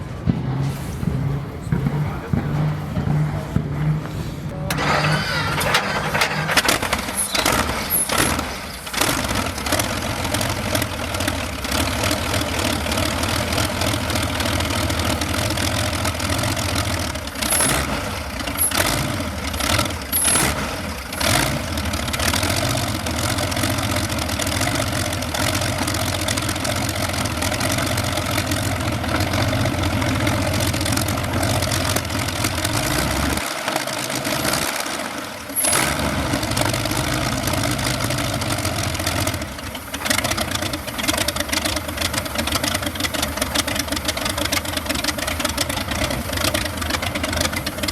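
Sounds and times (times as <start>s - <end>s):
tank engine deep hum: 0.0s - 47.9s.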